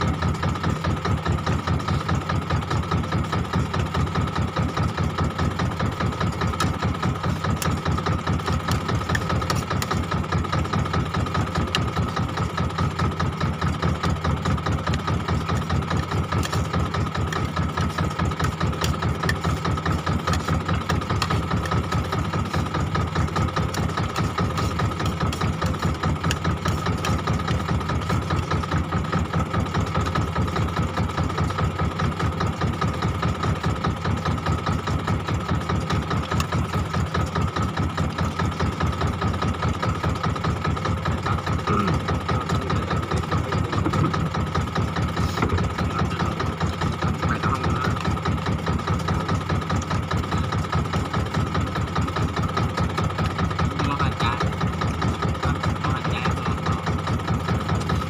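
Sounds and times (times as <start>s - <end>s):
boat engine idling chug: 0.0s - 58.0s.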